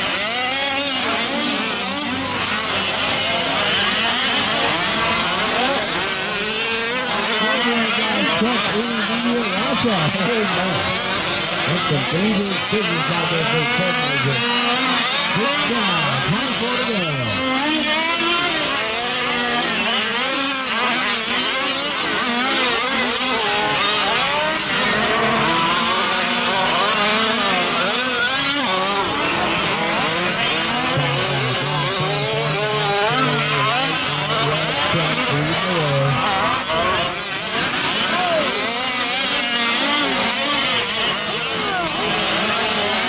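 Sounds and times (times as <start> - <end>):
small two-stroke engines revving: 0.0 - 43.0.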